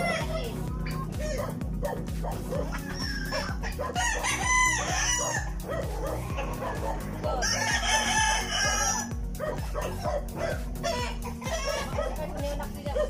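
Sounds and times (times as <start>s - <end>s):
roosters crowing: 1.2s - 12.5s.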